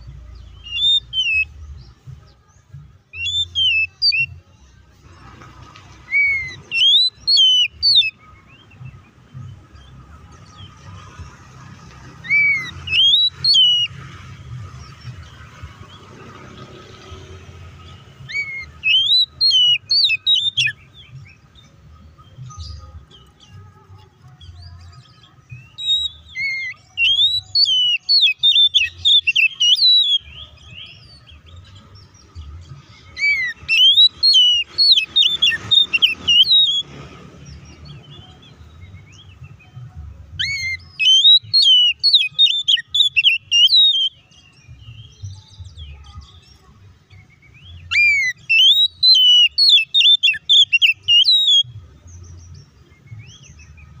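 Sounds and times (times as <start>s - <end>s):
bird song whistles and chirps: 0.0s - 54.0s.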